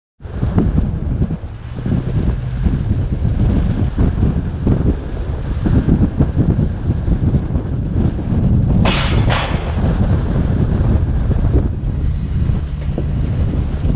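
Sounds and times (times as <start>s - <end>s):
tyres rumbling on gravel road: 0.2s - 13.9s
wind buffeting microphone: 0.2s - 13.9s.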